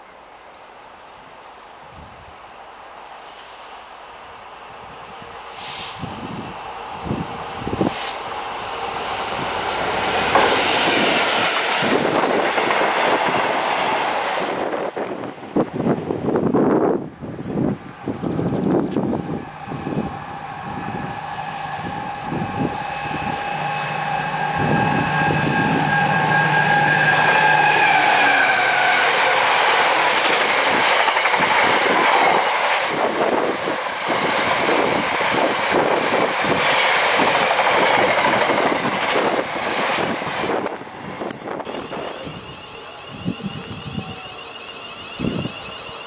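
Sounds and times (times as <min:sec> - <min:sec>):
diesel locomotive whine: 0:00.0 - 0:46.0.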